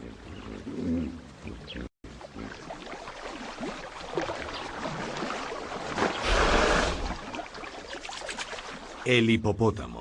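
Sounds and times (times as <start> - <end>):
water sloshing: 0.0 - 9.1.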